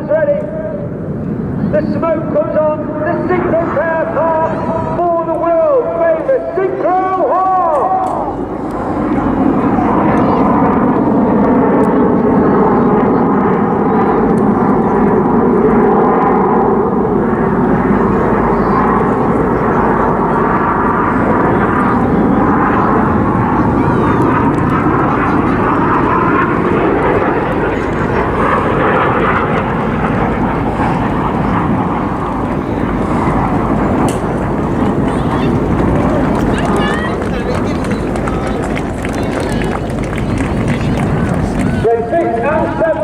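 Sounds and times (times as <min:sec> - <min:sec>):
jets flying past roaring: 0:00.4 - 0:43.0.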